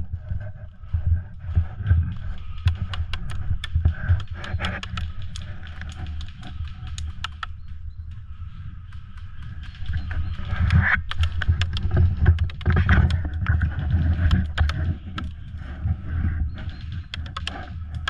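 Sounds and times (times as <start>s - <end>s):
sharp clicks and snaps: 1.4s - 18.0s.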